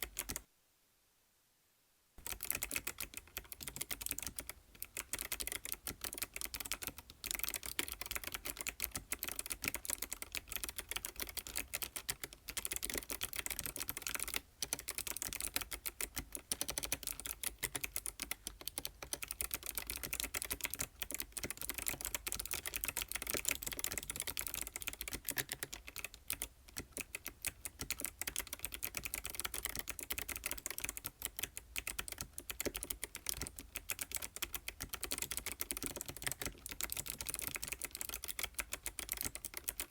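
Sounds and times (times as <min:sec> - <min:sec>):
mechanical keyboard typing: 0:00.0 - 0:00.4, 0:02.2 - 0:39.9.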